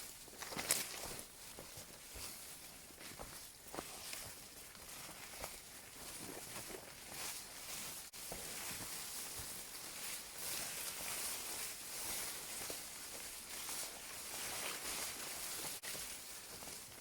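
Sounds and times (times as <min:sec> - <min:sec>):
footsteps on a trail: 0:00.0 - 0:17.0.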